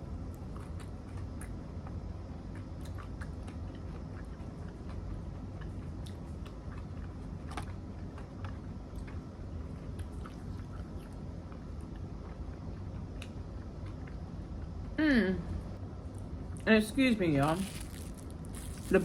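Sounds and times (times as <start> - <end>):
steady low hum: 0.0 - 19.0
chewing and biting food: 0.1 - 14.8, 17.4 - 19.0.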